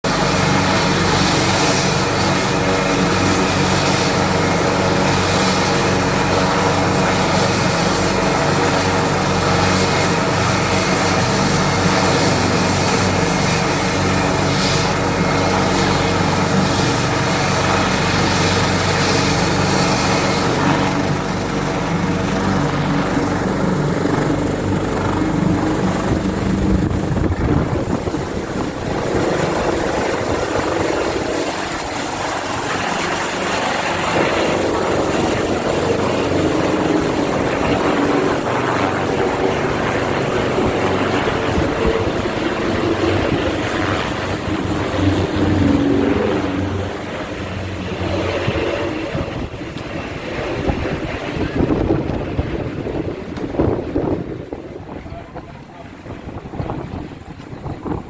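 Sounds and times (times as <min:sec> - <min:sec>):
helicopter rotor beat: 0:00.0 - 0:58.0
turbine whine: 0:00.1 - 0:58.0.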